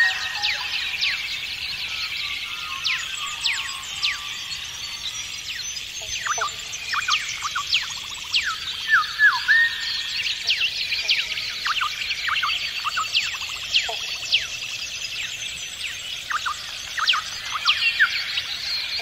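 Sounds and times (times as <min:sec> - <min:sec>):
chorus of birds calling: 0:00.0 - 0:19.0.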